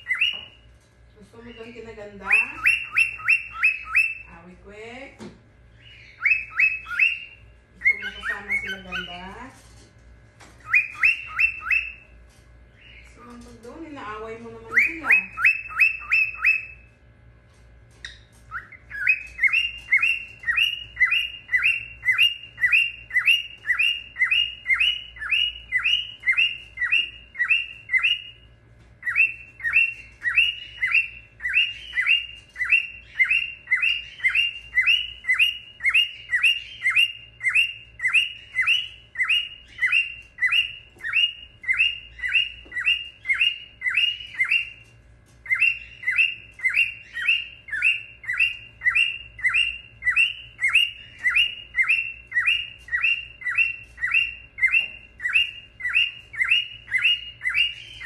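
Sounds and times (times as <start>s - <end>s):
cockatiel chirping: 0.0s - 0.6s, 1.4s - 4.4s, 5.7s - 9.4s, 10.6s - 12.1s, 12.7s - 13.2s, 14.6s - 16.9s, 18.0s - 28.4s, 29.0s - 58.0s
faint steady hum: 0.0s - 58.0s.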